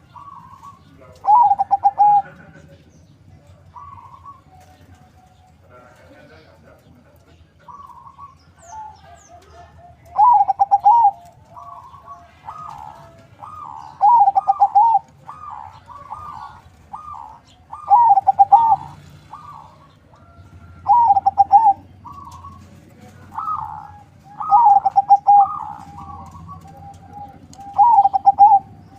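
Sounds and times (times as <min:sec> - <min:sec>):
faint dove coos: 0:00.0 - 0:02.8, 0:07.6 - 0:28.9
dove cooing trilled phrases: 0:00.0 - 0:28.9.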